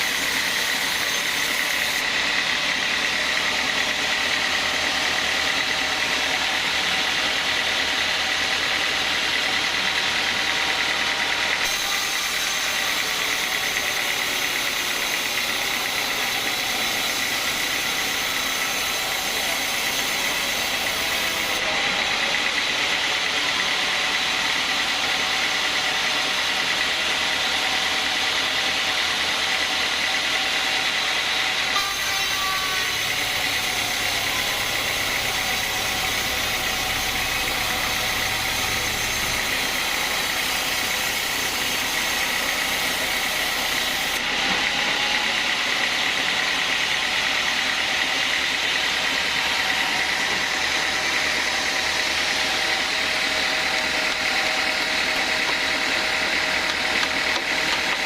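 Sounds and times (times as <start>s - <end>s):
band saw whining: 0.0s - 58.0s.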